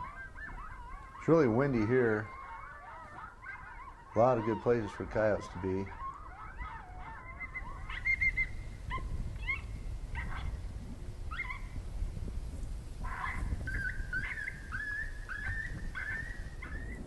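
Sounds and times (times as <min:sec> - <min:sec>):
high whimpering yelps: 0:00.0 - 0:10.5, 0:11.3 - 0:11.7, 0:13.1 - 0:17.0
wind rumbling on microphone: 0:00.0 - 0:17.0.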